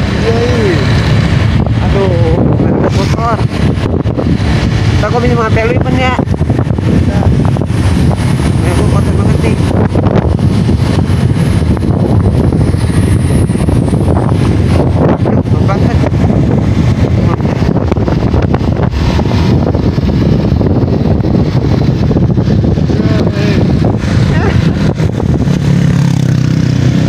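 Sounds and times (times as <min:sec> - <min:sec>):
motorcycle engine: 0:00.0 - 0:27.0
road noise: 0:00.0 - 0:27.0
wind buffeting microphone: 0:00.0 - 0:27.0.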